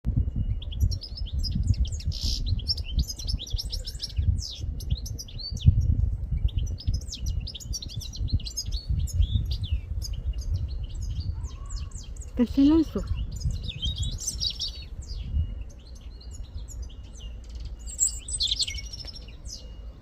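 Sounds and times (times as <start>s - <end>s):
songbird twittering: 0.1s - 20.0s.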